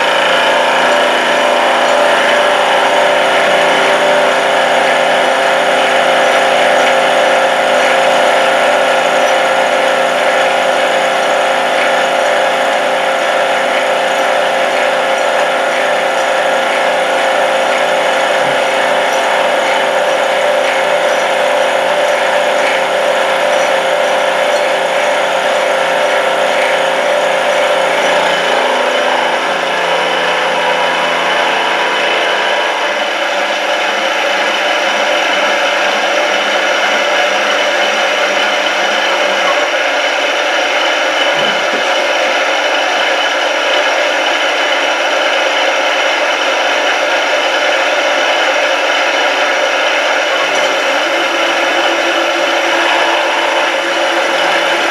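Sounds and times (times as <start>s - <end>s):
milling machine cutting metal: 0.0s - 54.9s.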